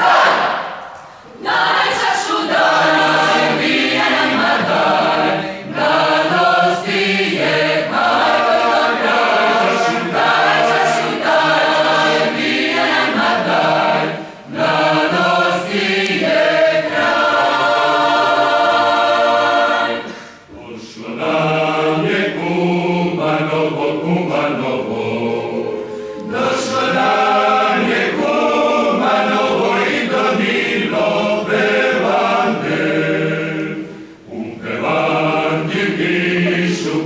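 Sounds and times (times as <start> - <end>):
mixed choir singing: 0.0 - 37.0.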